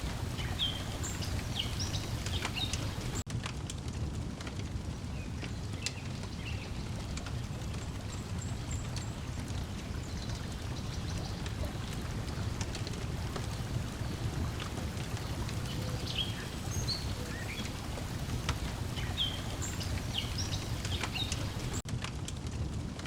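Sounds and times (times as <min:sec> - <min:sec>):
small birds chirping: 0:00.0 - 0:03.2, 0:05.1 - 0:21.8
water lapping: 0:00.0 - 0:03.2, 0:05.6 - 0:21.8
wood fire crackling and popping: 0:00.0 - 0:23.0.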